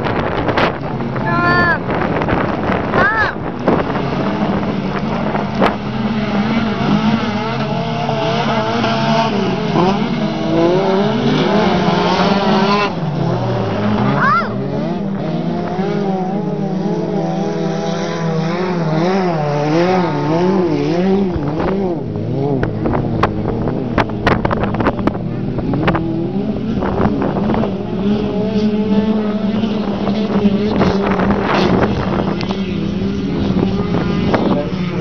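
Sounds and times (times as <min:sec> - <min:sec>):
racing car engines revving: 0:00.0 - 0:35.0.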